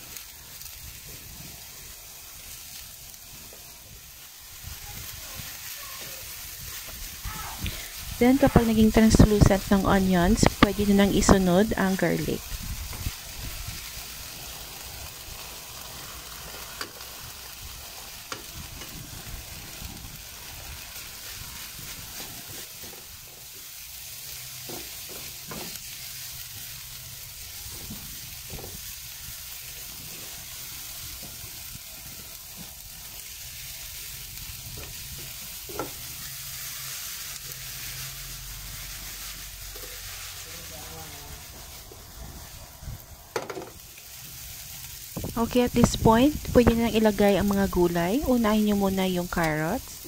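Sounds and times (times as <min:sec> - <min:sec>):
food sizzling in oil: 0:00.0 - 0:50.0.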